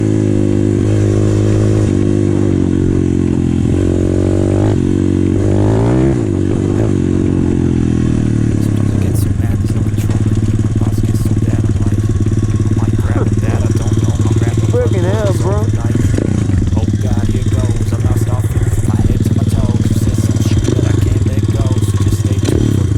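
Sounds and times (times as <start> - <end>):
small motorcycle engine revving: 0.0 - 22.9.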